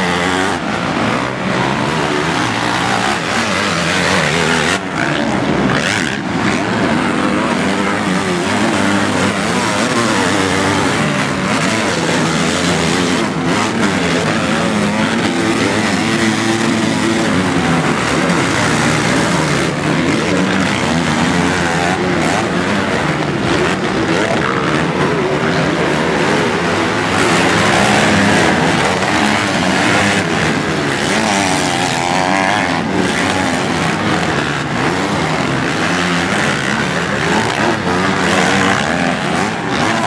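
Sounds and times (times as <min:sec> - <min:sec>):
motocross bike engines revving: 0:00.0 - 0:40.0.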